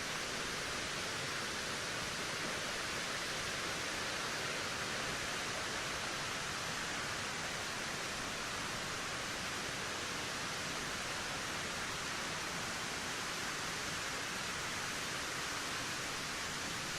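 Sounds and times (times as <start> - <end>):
steady wind hiss: 0.0 - 16.9.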